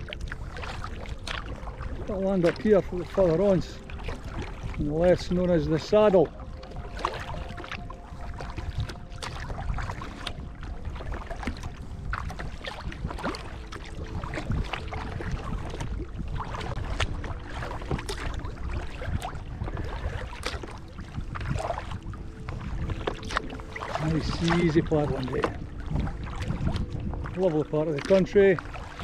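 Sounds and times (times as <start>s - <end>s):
paddle splashing in water: 0.0s - 29.0s
water running along kayak hull: 0.0s - 29.0s.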